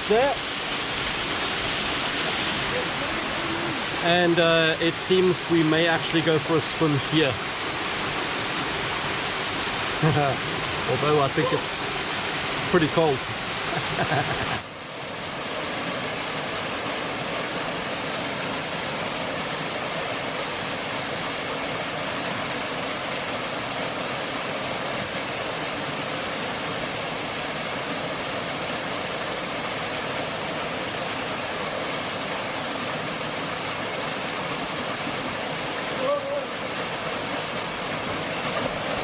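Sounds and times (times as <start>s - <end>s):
waterfall pouring into pool: 0.0s - 39.0s.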